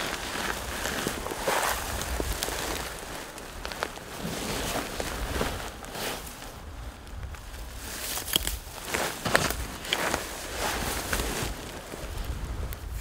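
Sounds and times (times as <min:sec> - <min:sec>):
footsteps on rocky ground: 0:00.0 - 0:06.4, 0:07.7 - 0:12.4
wind rumble on microphone: 0:00.0 - 0:13.0.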